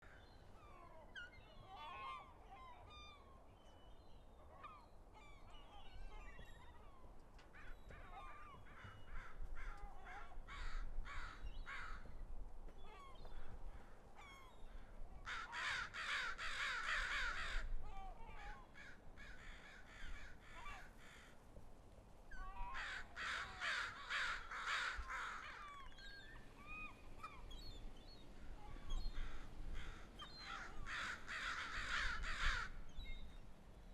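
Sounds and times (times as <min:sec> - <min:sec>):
flock of birds calling: 0:00.0 - 0:12.1, 0:12.8 - 0:21.4, 0:22.3 - 0:33.3.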